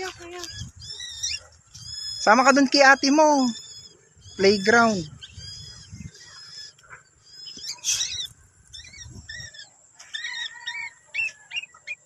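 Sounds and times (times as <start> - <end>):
parrots chirping: 0.2 - 12.0.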